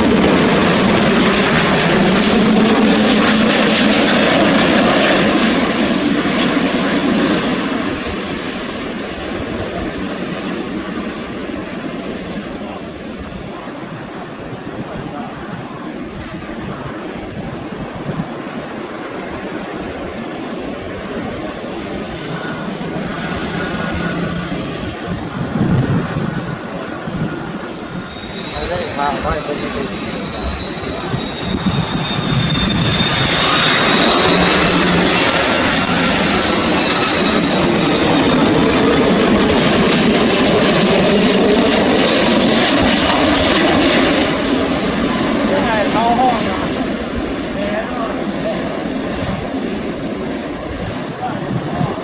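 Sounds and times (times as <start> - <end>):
jet plane passing overhead: 0.0 - 52.0.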